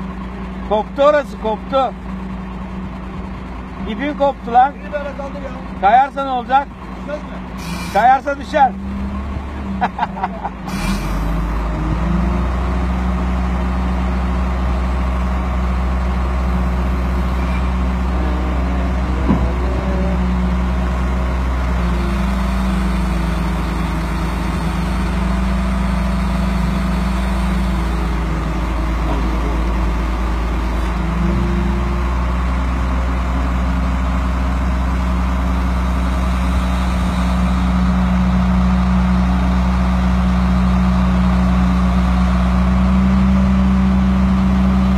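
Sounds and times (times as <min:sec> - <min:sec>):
crane engine running under load: 0:00.0 - 0:44.9.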